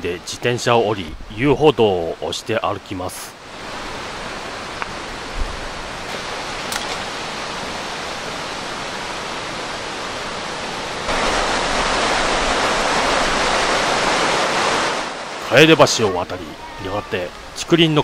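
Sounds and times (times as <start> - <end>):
stream rushing over rocks: 3.4 - 18.0.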